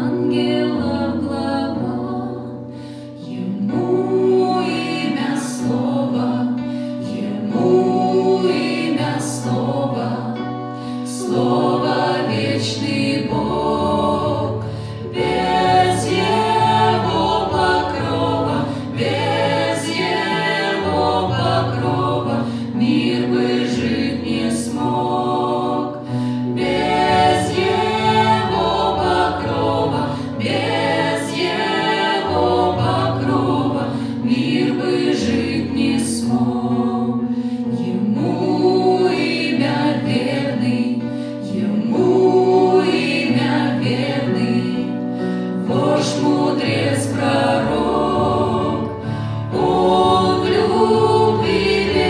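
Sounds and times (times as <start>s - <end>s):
electronic keyboard accompaniment: 0.0s - 52.0s
mixed choir singing a hymn: 0.0s - 52.0s.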